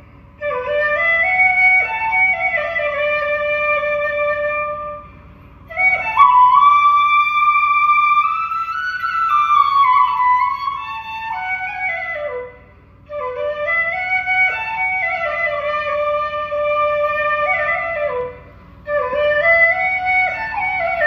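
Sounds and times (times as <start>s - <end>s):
wind instrument melody: 0.4s - 5.1s, 5.7s - 21.0s.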